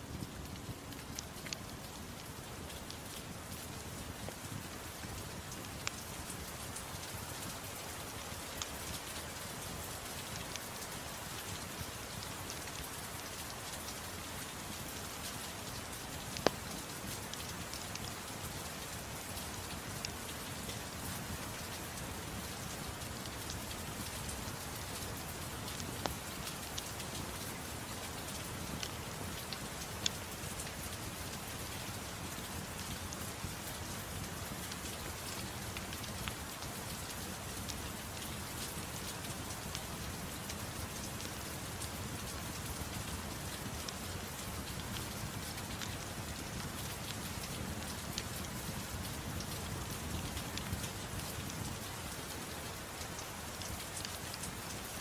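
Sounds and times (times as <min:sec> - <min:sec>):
gentle rain: 0:00.0 - 0:55.0.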